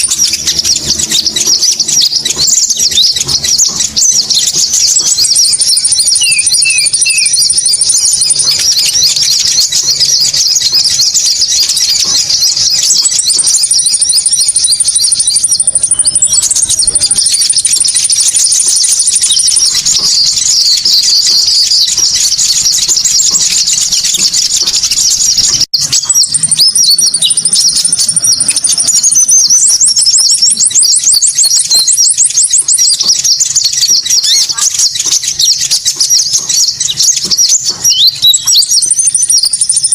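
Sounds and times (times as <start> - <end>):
birds chirping and twittering: 0.0 - 39.9
thin high bird trills: 0.0 - 39.9.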